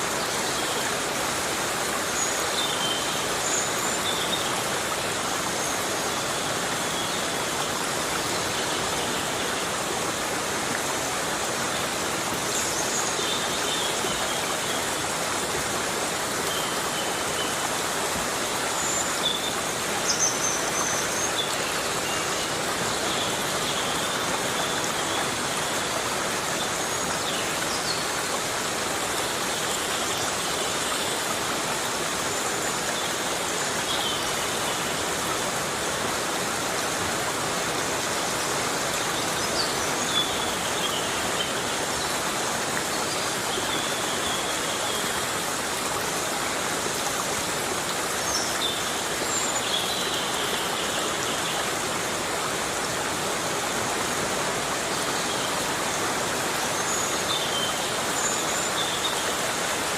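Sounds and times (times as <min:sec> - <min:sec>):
heavy rain in forest: 0:00.0 - 0:59.9.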